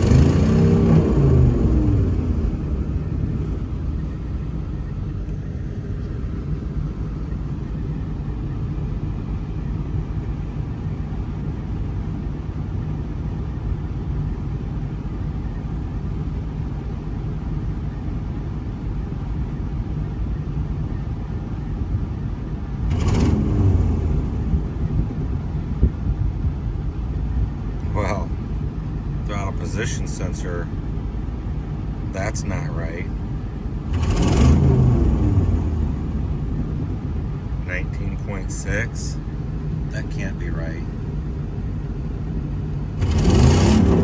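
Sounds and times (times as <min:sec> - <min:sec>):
truck engine rumbling: 0:00.0 - 0:44.0.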